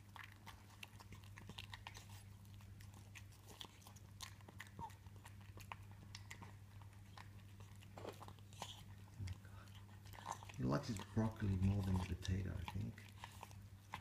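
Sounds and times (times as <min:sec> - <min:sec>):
cat chewing and crunching food: 0:00.0 - 0:14.0
steady low hum: 0:00.0 - 0:14.0.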